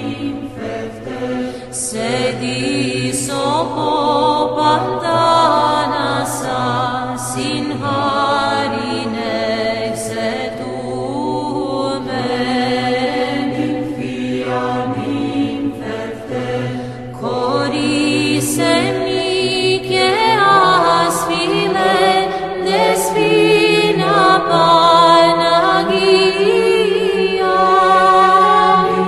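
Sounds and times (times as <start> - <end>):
voices singing slow melody: 0.0 - 29.0.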